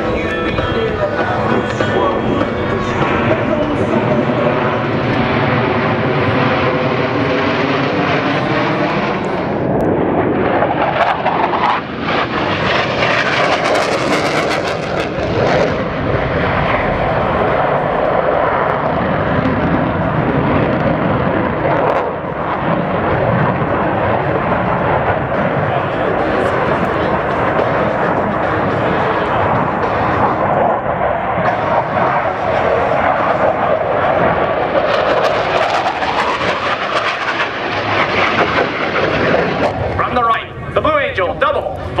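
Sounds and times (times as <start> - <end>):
jet engines running loud: 0.0 - 42.0.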